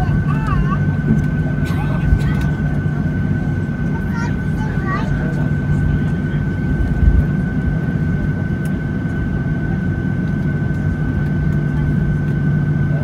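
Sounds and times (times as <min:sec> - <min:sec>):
aircraft cabin engine hum: 0:00.0 - 0:13.0
high engine whine: 0:00.0 - 0:13.0.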